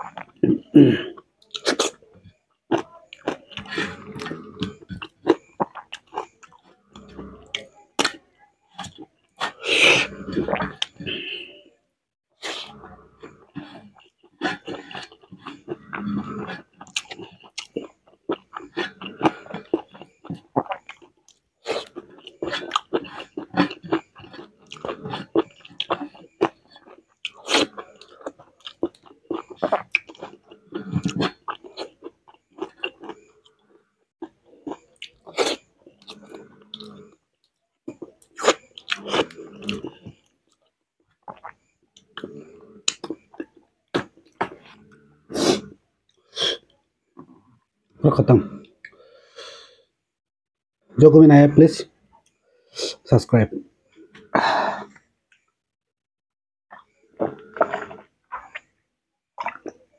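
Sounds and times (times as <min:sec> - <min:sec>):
person chewing: 0:00.0 - 0:11.6, 0:12.4 - 0:47.3, 0:56.7 - 0:58.8, 0:59.4 - 0:59.9.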